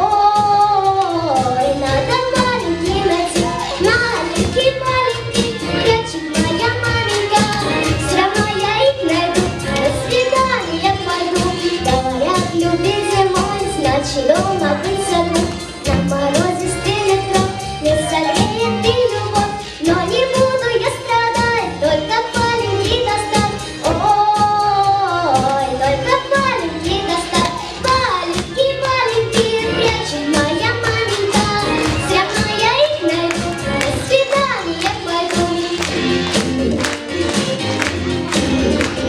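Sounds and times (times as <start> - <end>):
girl singing: 0.0 - 35.9
instrumental accompaniment with beat: 0.0 - 39.0.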